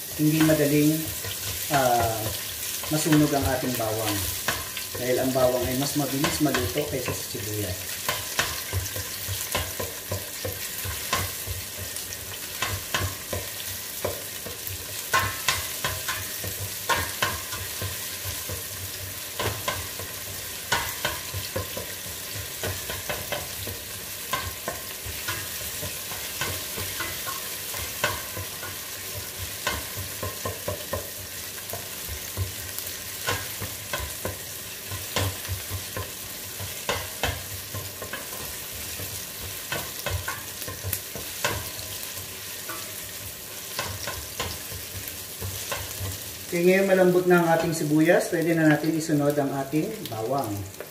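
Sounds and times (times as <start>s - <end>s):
onions sizzling in hot oil: 0.0s - 50.9s
spatula scraping and knocking pot: 0.4s - 46.5s.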